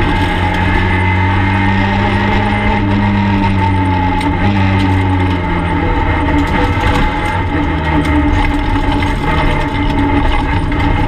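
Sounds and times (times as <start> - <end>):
rally car engine running hard: 0.0 - 11.0.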